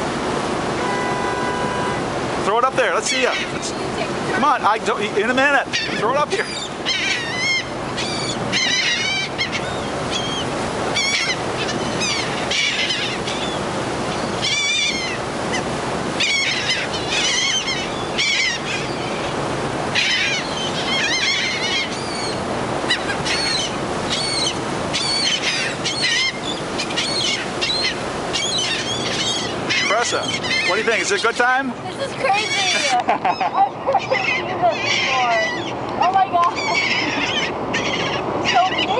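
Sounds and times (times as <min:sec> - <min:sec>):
seagulls calling: 0:00.8 - 0:38.9.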